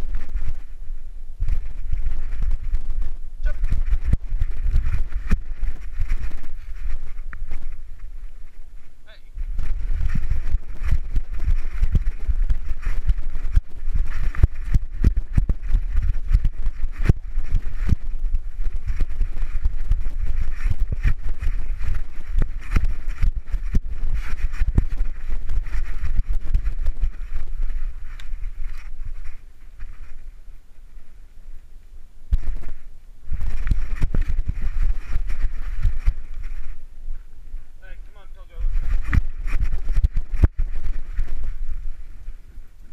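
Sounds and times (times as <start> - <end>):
camera bumping and rubbing: 0.0 - 0.7, 1.4 - 30.2, 32.3 - 36.8, 38.5 - 42.3.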